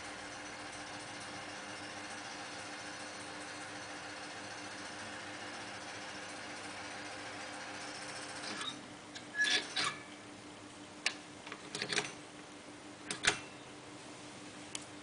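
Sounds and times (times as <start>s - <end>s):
low mains hum: 0.0s - 15.0s.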